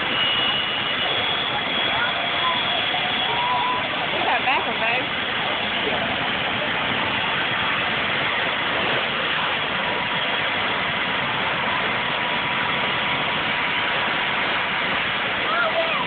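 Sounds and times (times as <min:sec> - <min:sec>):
faint steady whine: 0:00.0 - 0:16.0
helicopter engine and rotor: 0:00.0 - 0:16.0.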